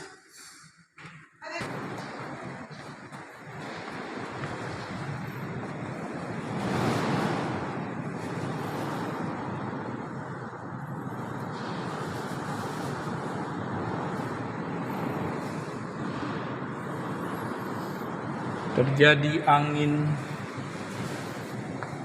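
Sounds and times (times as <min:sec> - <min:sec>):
strong wind gusting: 0:01.1 - 0:22.0.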